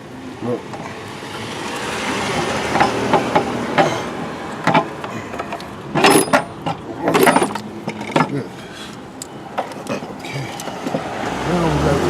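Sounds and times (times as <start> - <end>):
engine parts and hand tools clattering: 0.6 - 11.4.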